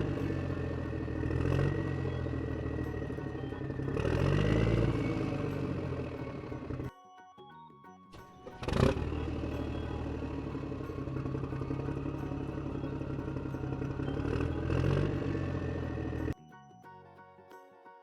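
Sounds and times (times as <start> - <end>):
vehicle engine running: 0.0 - 6.9, 8.2 - 16.4
soft background music: 0.0 - 18.0.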